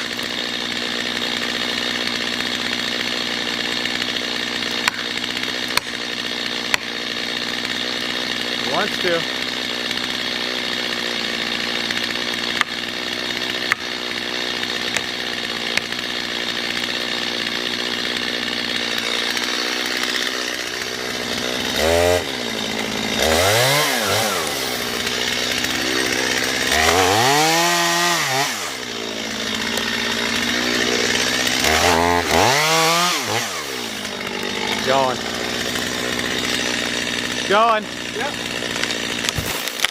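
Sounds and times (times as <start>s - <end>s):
chainsaw cutting tree trunk: 0.0s - 39.9s.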